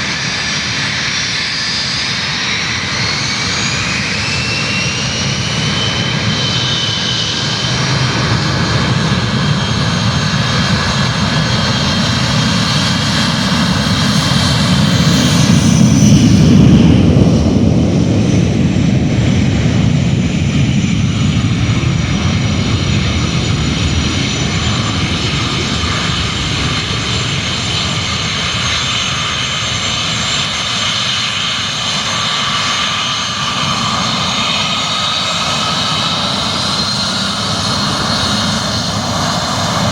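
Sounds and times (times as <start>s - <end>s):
high jet whine: 0.0s - 39.9s
jet engine roar: 0.0s - 39.9s.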